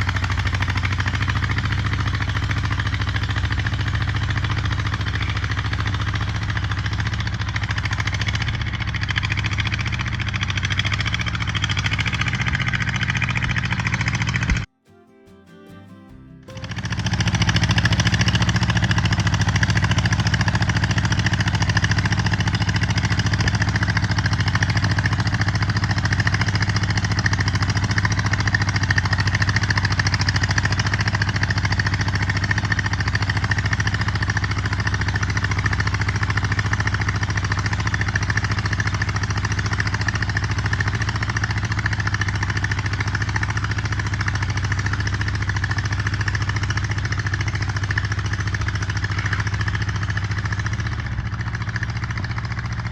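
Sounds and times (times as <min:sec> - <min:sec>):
tractor engine running: 0:00.0 - 0:15.3, 0:15.9 - 0:52.9.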